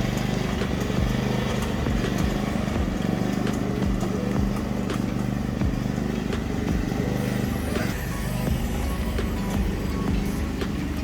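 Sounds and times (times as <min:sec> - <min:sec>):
farm vehicle engine running: 0:00.0 - 0:11.0.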